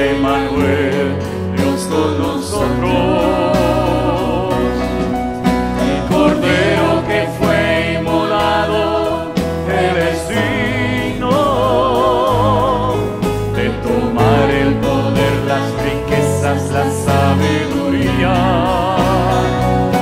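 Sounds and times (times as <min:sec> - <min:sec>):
low bass line: 0:00.0 - 0:20.0.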